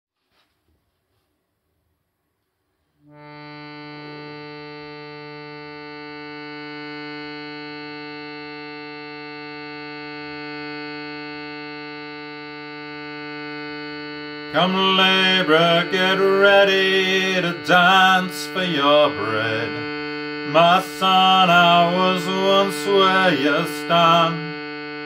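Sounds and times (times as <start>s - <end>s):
shruti box reed drone: 3.0s - 25.0s.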